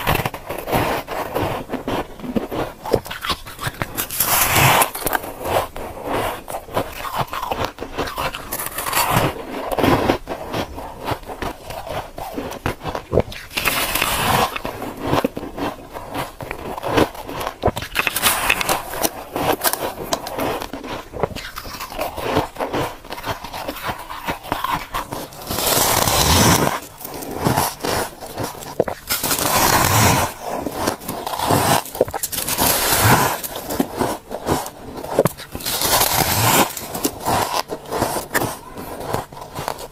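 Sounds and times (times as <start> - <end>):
biting and crunching frost: 0.0 - 39.9.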